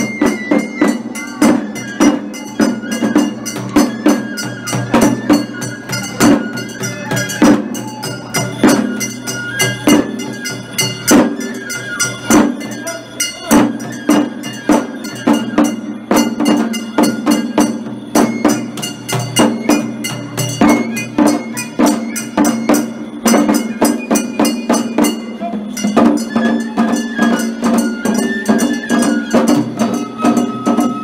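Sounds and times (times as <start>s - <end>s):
large drum beating: 0.0s - 31.0s.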